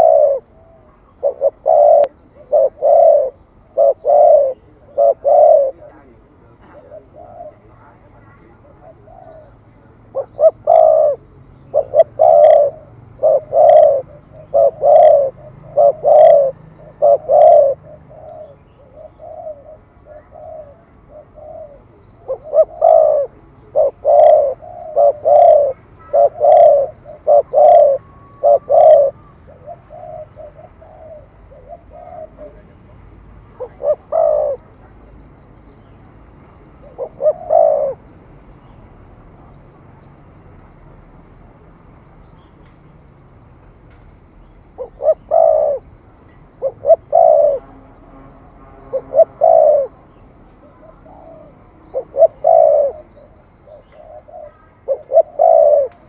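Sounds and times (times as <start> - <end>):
dove cooing: 0.0 - 41.6, 44.7 - 56.0.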